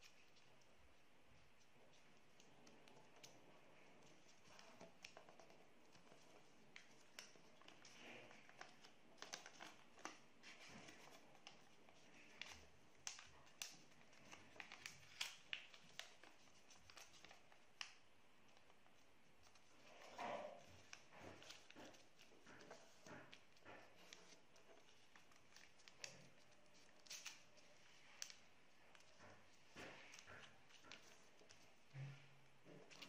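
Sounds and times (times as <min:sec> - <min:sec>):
paper crinkling as folded: 0:01.5 - 0:33.0.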